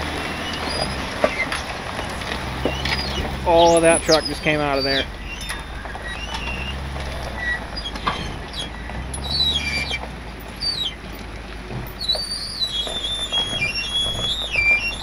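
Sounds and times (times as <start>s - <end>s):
truck brakes squealing: 0.0s - 11.3s, 11.9s - 15.0s
low engine rumble: 0.0s - 15.0s.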